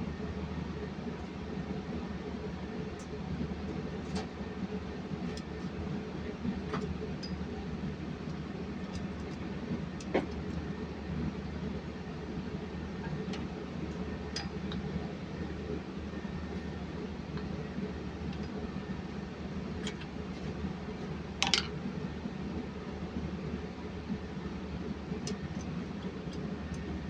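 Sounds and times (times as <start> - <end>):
low machinery hum: 0.0 - 27.0.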